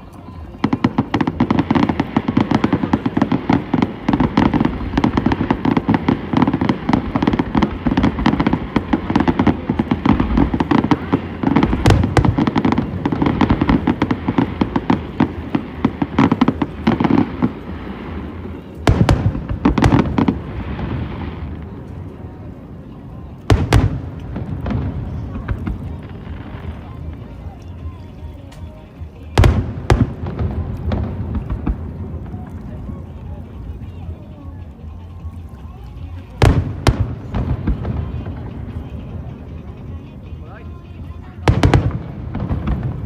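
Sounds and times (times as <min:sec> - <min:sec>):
fireworks crackling and banging: 0:00.0 - 0:43.0.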